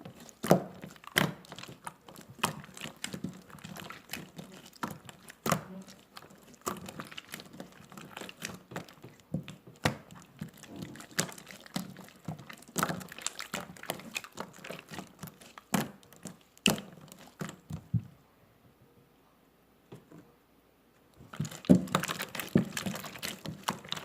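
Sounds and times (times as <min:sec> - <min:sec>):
slime squished by hand: 0:00.0 - 0:17.9, 0:21.2 - 0:24.0.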